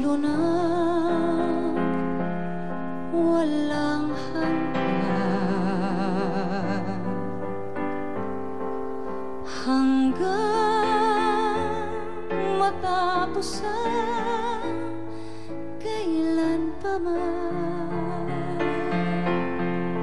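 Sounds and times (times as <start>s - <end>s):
woman singing a ballad: 0.0s - 8.0s, 9.1s - 20.0s
piano accompaniment: 0.0s - 20.0s.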